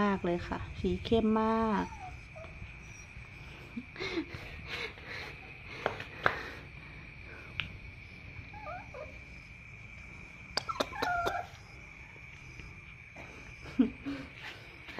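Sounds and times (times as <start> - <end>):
steady high-pitched whine: 0.0 - 14.9.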